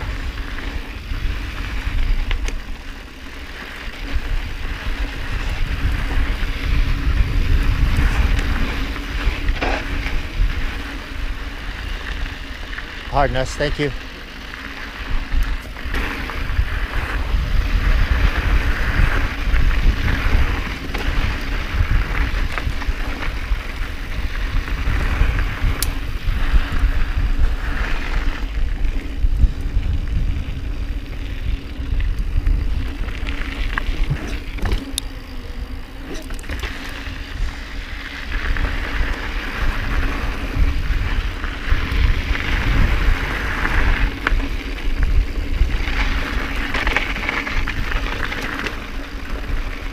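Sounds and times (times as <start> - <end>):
bike clicks and rattles: 0.0 - 49.9
tyre noise on dirt: 0.0 - 49.9
wind rumbling on microphone: 0.0 - 49.9.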